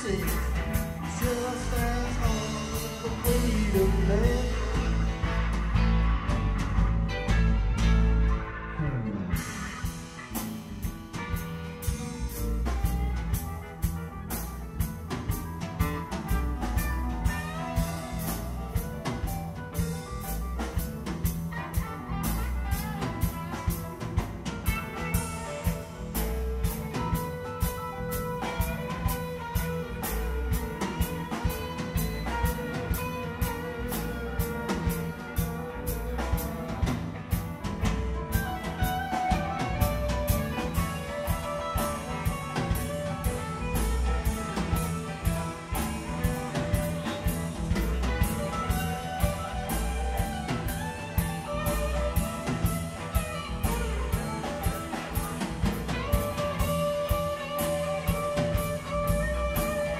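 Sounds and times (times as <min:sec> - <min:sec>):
drum kit beat: 0:00.0 - 0:59.9
guitar lines: 0:00.0 - 0:59.9
live blues band playing: 0:00.0 - 0:59.9.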